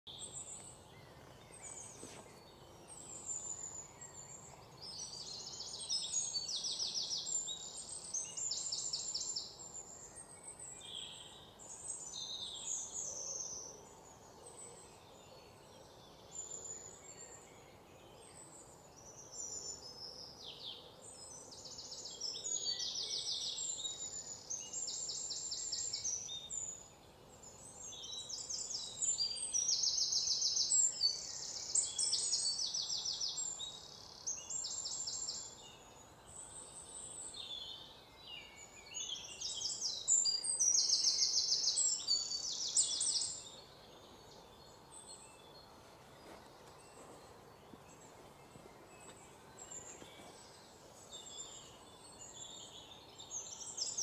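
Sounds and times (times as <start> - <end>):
small birds chirping and trilling: 0.0 - 54.0
faint background hiss: 0.1 - 54.0.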